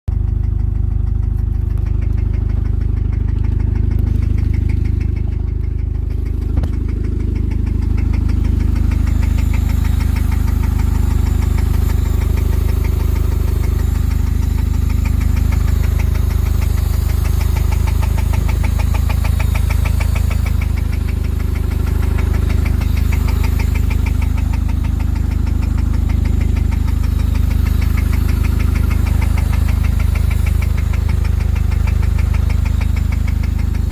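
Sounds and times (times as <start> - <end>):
car engine running: 0.0 - 33.9
fast even engine knocking: 0.1 - 33.9.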